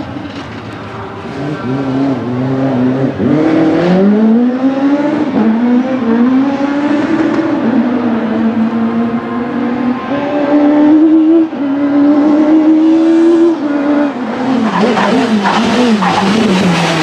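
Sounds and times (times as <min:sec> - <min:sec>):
racing car engine revving: 0:01.1 - 0:17.0.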